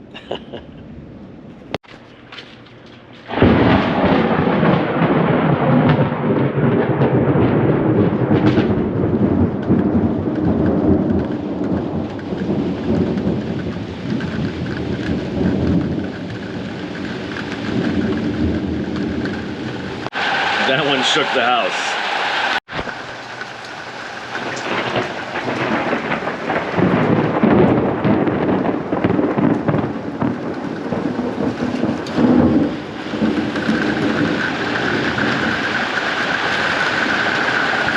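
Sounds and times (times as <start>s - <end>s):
rain falling: 2.2s - 37.9s
thunder rumbling: 2.7s - 37.9s.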